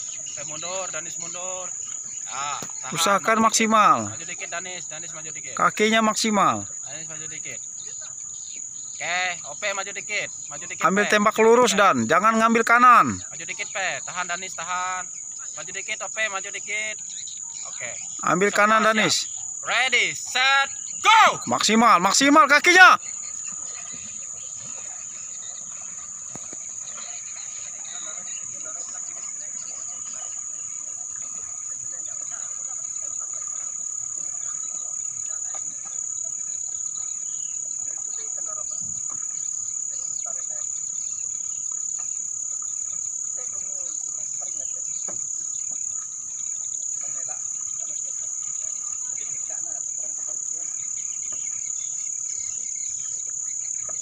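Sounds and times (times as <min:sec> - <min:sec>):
insects shrilling: 0:00.0 - 0:54.0.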